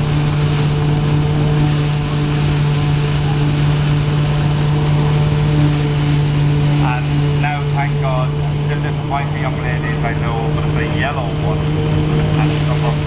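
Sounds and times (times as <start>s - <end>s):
threshing machine humming: 0.0s - 13.0s.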